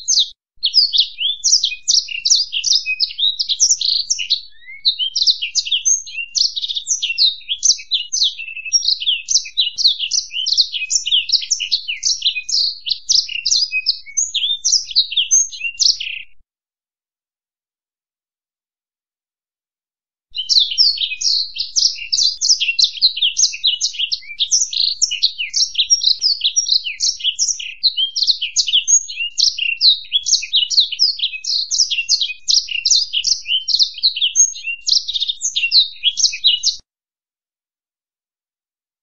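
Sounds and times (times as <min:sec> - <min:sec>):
finch twittering song: 0:00.0 - 0:16.4, 0:20.4 - 0:36.8.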